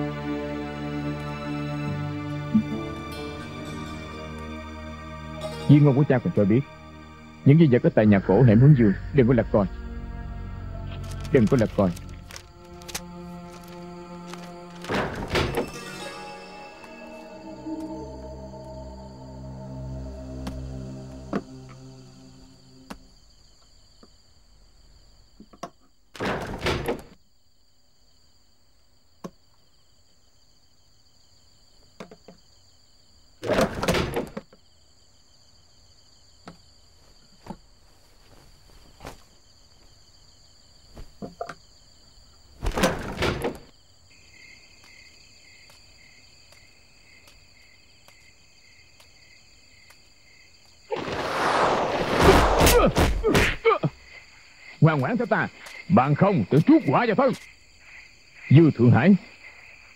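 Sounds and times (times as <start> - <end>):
insect pulsed chirp: 0.0 - 26.1, 34.6 - 59.9
insects chirping: 0.0 - 59.9.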